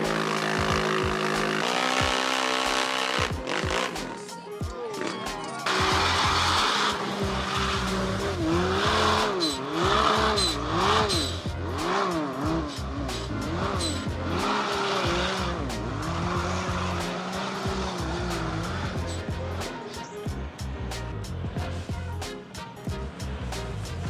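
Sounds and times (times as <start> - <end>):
atv engine revving: 0.0 - 4.3, 5.0 - 22.3, 22.9 - 24.0
music playing: 0.0 - 24.0.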